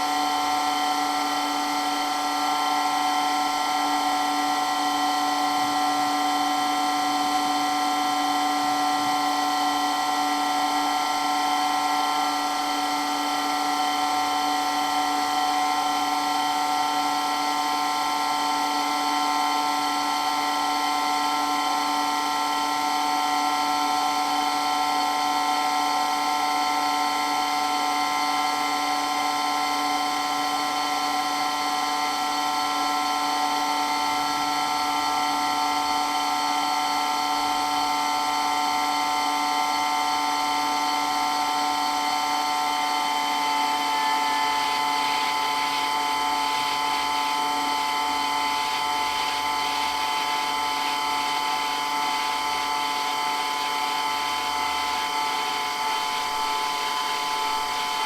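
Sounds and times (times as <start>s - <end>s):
electric water pump whining: 0.0s - 58.0s.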